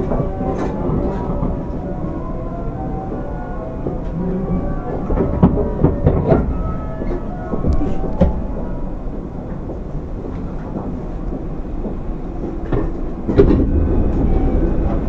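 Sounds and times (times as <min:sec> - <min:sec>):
electric train rumbling and humming: 0:00.0 - 0:15.0.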